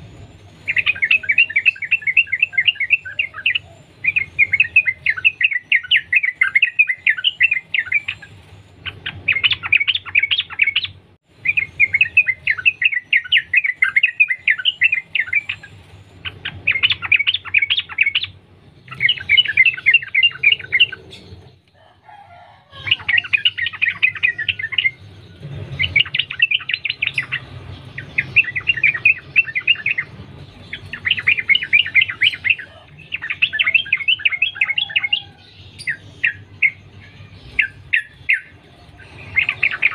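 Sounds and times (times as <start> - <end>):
bird singing rapid chattering notes: 0.0 - 21.6, 22.8 - 39.9.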